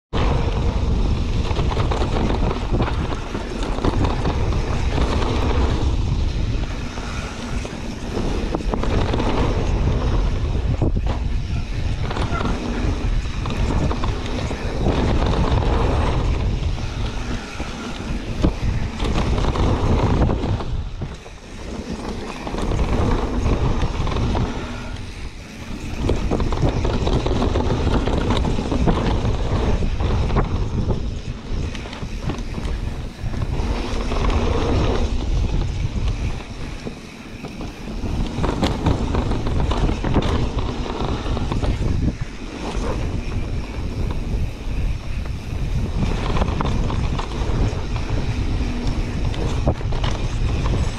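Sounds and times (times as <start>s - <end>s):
bike rattling over dirt trail: 0.1s - 50.9s
wind on microphone: 0.1s - 50.9s.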